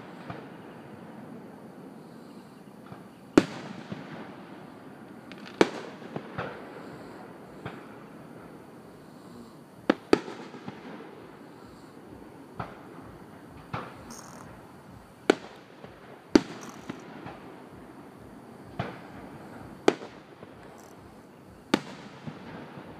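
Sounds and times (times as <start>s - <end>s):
fireworks bangs with echo: 0.0s - 1.6s, 2.8s - 22.9s.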